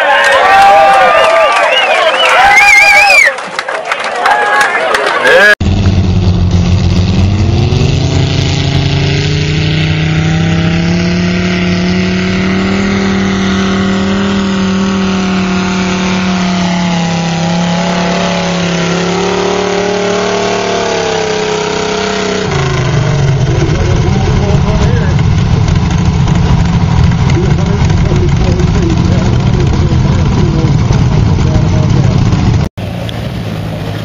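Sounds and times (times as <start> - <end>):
pulling tractor engines revving: 4.8 - 34.0.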